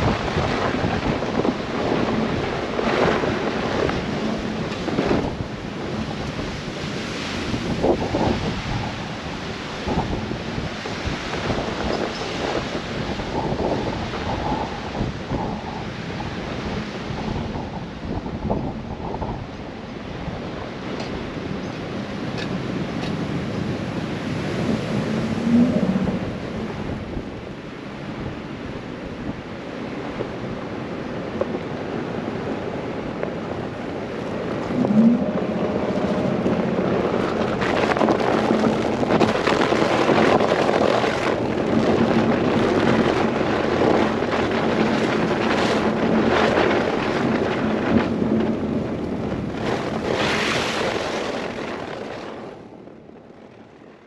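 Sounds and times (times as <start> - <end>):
blizzard wind gusting: 0.0 - 54.0.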